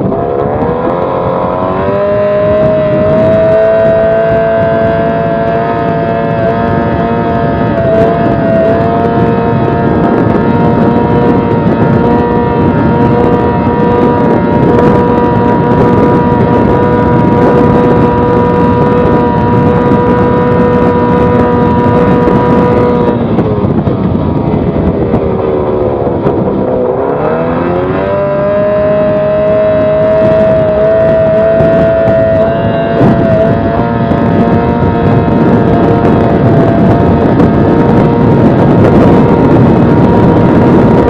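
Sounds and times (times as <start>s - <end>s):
outboard motor running: 0.0s - 41.0s.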